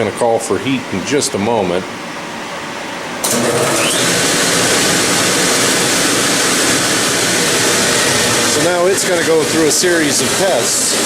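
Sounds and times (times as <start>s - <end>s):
fan rush of air: 0.0s - 11.0s.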